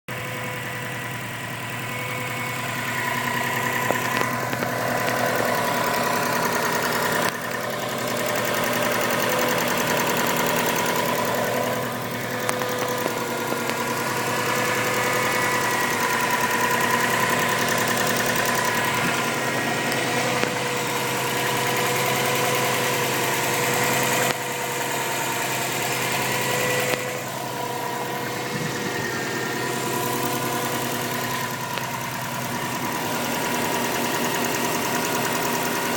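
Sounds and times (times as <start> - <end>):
car engine idling: 0.1 - 35.9
ticking under the hood: 1.7 - 35.9.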